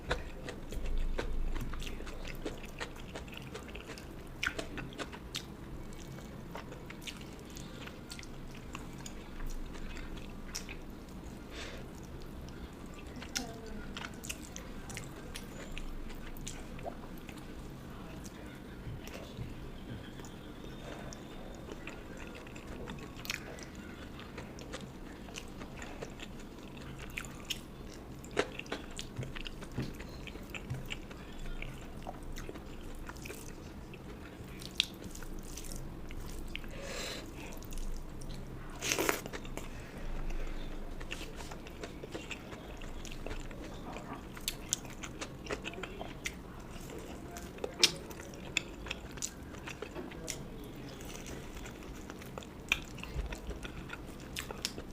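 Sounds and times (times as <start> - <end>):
chewing with crunchy bites: 0.0 - 54.9.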